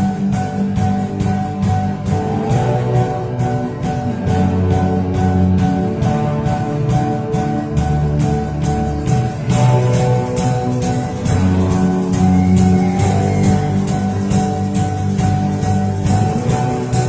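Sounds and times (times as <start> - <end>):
drum kit cymbals: 0.0 - 17.0
live band playing: 0.0 - 17.0.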